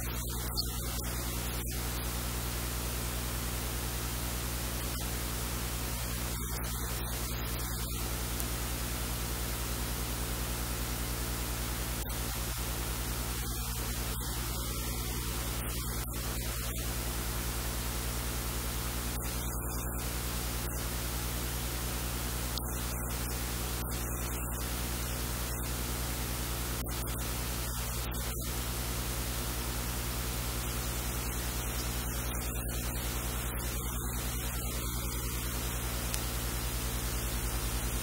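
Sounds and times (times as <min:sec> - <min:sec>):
low mains hum: 0:00.0 - 0:38.0
steady loud hiss: 0:00.0 - 0:38.0.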